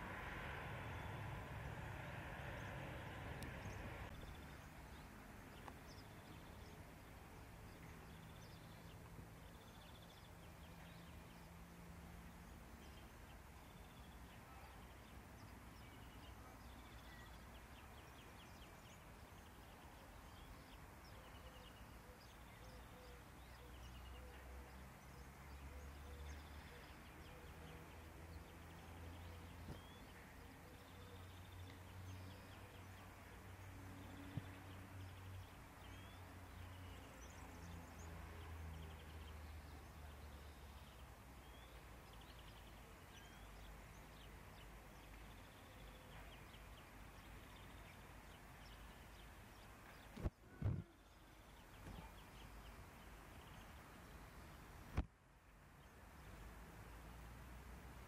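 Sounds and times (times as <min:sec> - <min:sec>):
distant small birds chirping: 0:00.0 - 0:58.0.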